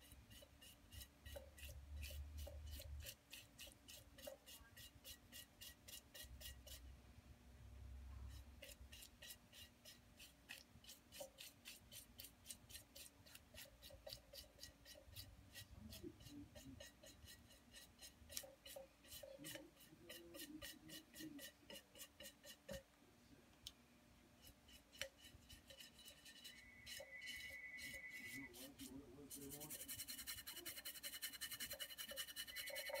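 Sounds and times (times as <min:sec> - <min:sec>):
paintbrush scratchy strokes: 0:00.0 - 0:06.9, 0:08.2 - 0:22.8, 0:24.4 - 0:33.0.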